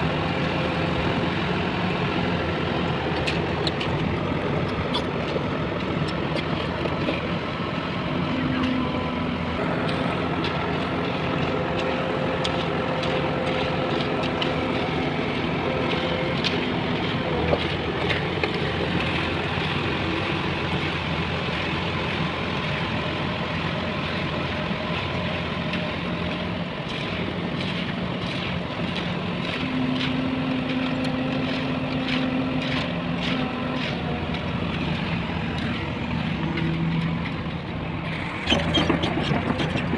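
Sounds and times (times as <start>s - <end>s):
heavy vehicle engines running: 0.0s - 39.9s.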